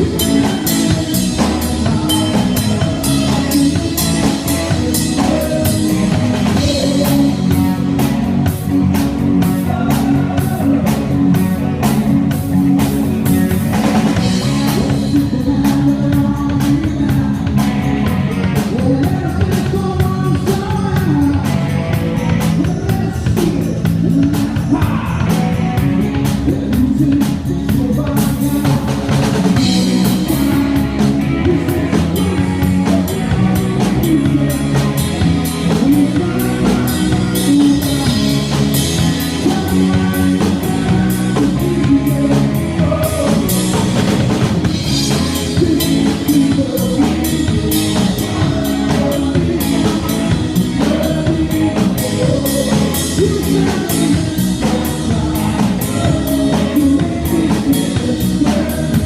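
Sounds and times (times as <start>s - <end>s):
drum kit beat: 0.0s - 59.0s
person singing: 0.0s - 59.0s
rock band playing live: 0.0s - 59.0s.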